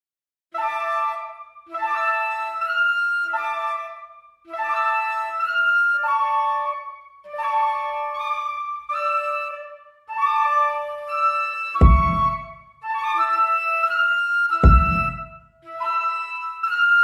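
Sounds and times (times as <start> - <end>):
flute-like melody: 0.5 - 17.0.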